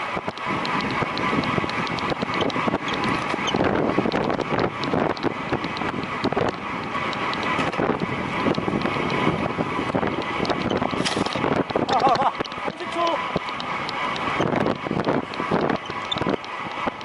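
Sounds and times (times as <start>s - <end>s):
small clicks and rattles: 0.0s - 17.0s
wind rushing over microphone: 0.0s - 17.0s.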